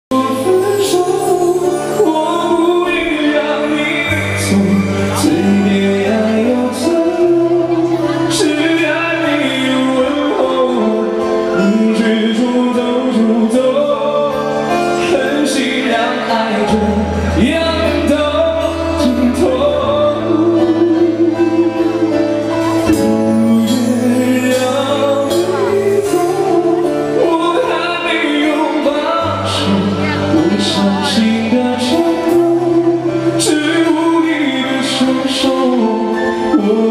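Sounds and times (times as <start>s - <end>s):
electronic keyboard chords: 0.1s - 36.9s
low bass notes: 0.1s - 36.9s
person singing: 0.1s - 36.9s.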